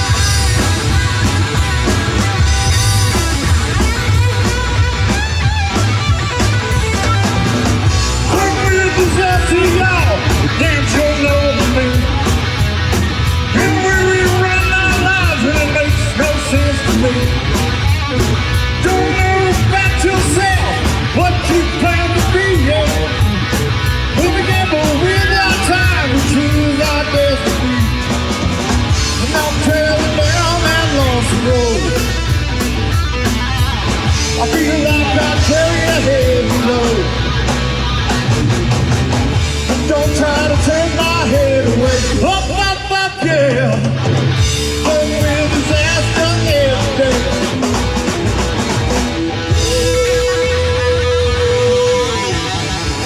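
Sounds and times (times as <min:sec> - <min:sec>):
bass guitar: 0:00.0 - 0:53.0
drums: 0:00.0 - 0:53.0
lead electric guitar: 0:00.0 - 0:53.0.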